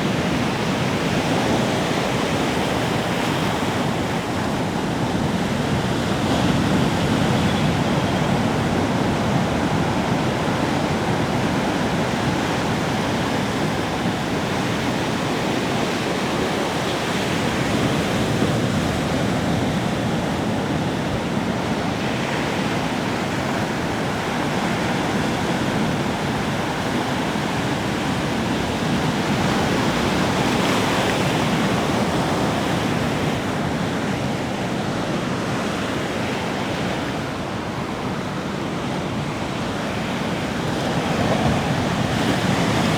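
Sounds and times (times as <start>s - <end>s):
sea waves breaking on shore: 0.0s - 42.9s.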